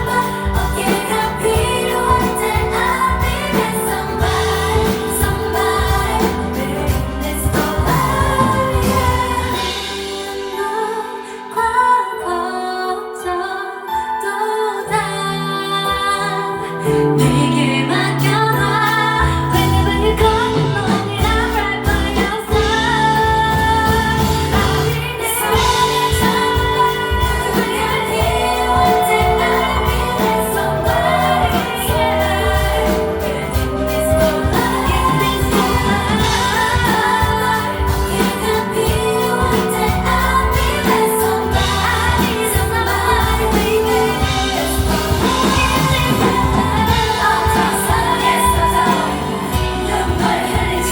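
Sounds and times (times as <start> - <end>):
band backing track: 0.0 - 50.9
women singing pop song: 0.0 - 50.9.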